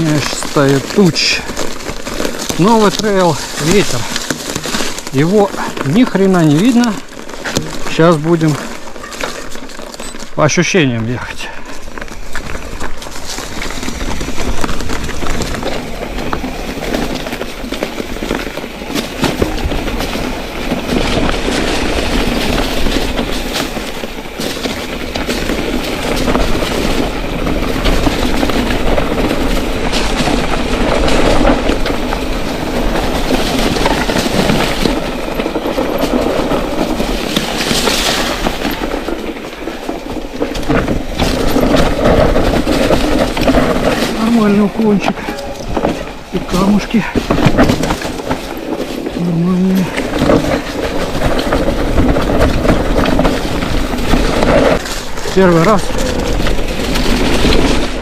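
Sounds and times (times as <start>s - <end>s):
mountain bike rattling: 0.0s - 58.0s
tyres rolling over stones: 0.0s - 58.0s.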